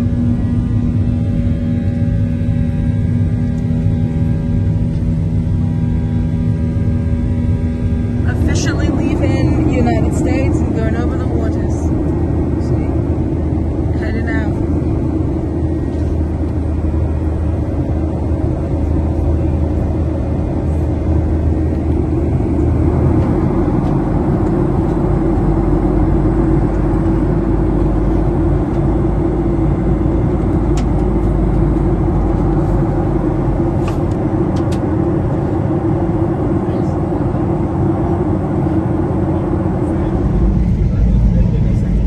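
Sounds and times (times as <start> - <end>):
airliner cabin engine rush: 0.0 - 42.0
low hum: 0.0 - 42.0.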